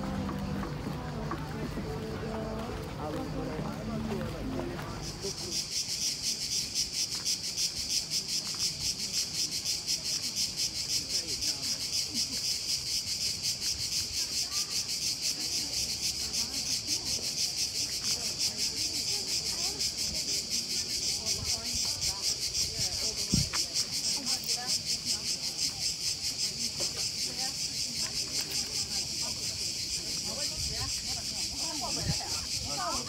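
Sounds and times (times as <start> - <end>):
cicadas chorusing: 0.0 - 33.0.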